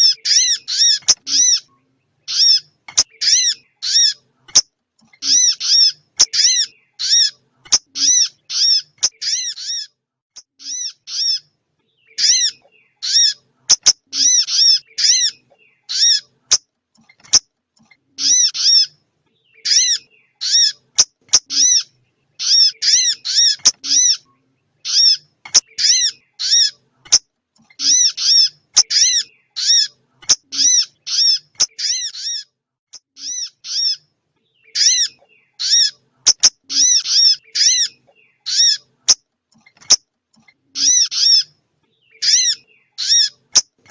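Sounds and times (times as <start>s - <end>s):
high bird chirps: 0.0s - 43.9s.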